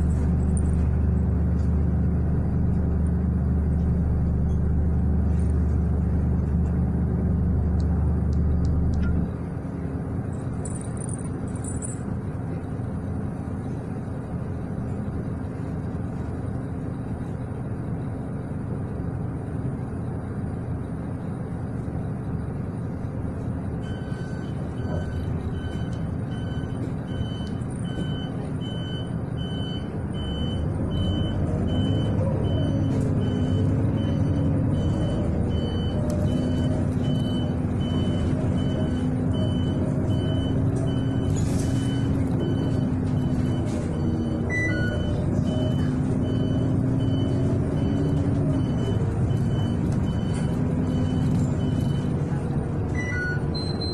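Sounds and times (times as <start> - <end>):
bus engine: 0.0 - 53.9
road noise: 0.0 - 53.9.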